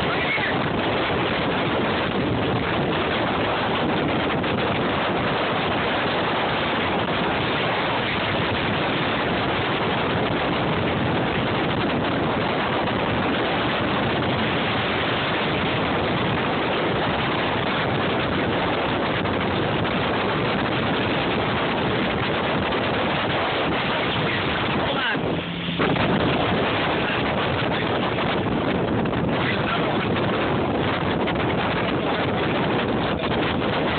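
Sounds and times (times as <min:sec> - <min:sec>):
water spraying past boat hull: 0:00.0 - 0:33.9
wind buffeting microphone: 0:00.0 - 0:33.9.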